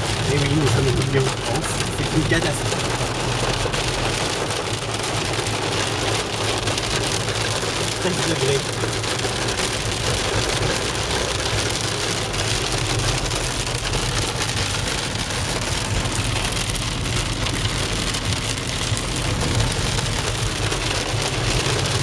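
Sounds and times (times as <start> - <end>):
heavy rain on car windscreen: 0.0 - 22.0
moving car rumble: 0.0 - 22.0.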